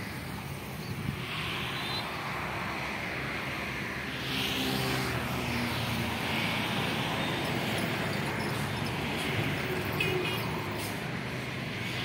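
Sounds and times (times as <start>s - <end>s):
outdoor traffic noise: 0.0s - 12.0s
vehicle engine hum: 0.0s - 12.0s.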